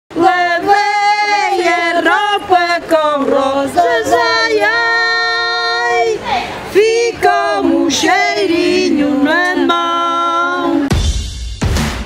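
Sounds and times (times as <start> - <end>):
women singing unaccompanied: 0.1 - 10.9.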